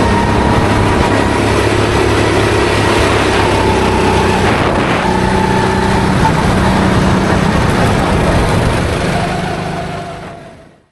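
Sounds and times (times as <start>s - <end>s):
kart engine running: 0.0s - 10.9s.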